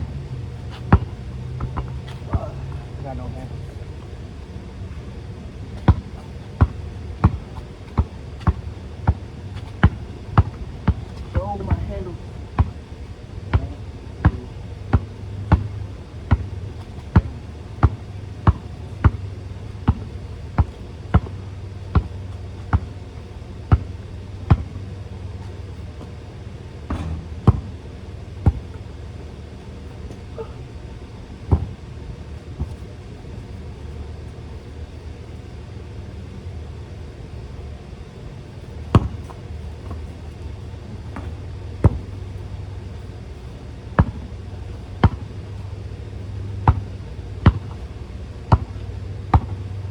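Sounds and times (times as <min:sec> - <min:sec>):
steady low hum: 0:00.0 - 0:49.9
basketball bouncing: 0:00.1 - 0:23.0, 0:23.6 - 0:32.0, 0:38.8 - 0:43.2, 0:43.9 - 0:49.9.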